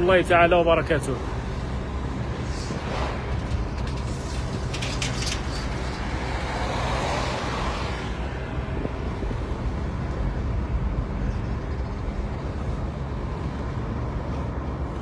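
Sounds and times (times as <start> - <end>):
car engine and tyre rumble: 0.0 - 15.0
rushing noise: 1.2 - 14.1.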